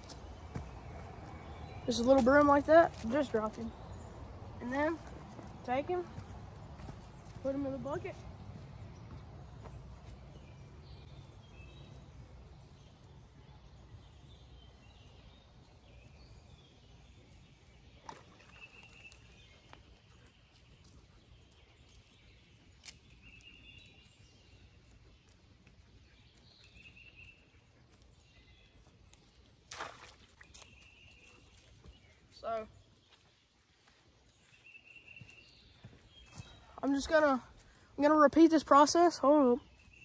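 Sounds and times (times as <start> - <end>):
distant birds chirping: 0.0 - 40.0.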